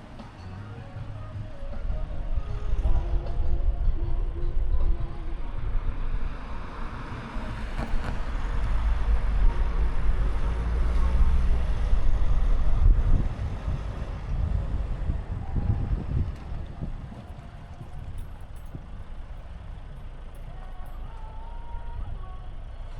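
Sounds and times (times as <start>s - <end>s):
car tyre and road rumble: 0.0s - 22.9s.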